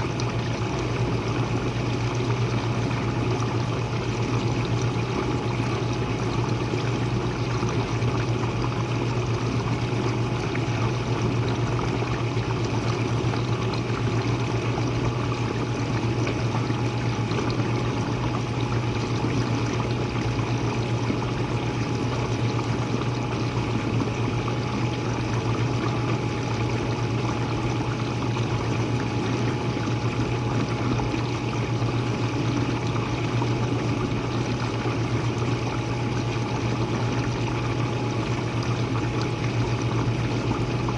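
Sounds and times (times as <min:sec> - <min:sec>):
dishwasher pump motor hum: 0:00.0 - 0:40.9.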